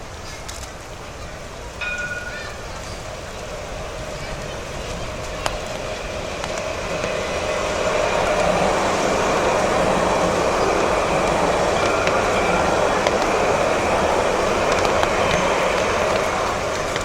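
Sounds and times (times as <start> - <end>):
tram running past: 0.0 - 17.0
faint high whining tones: 1.6 - 17.0.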